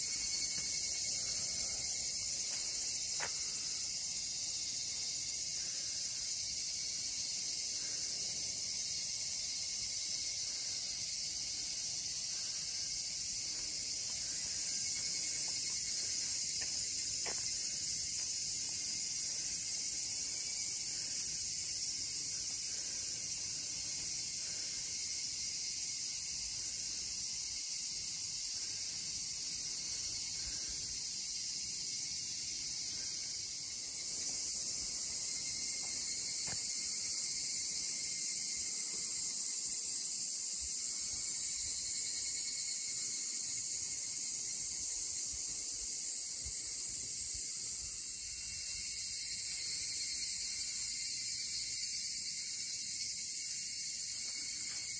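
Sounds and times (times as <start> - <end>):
cicadas shrilling: 0.0 - 54.9.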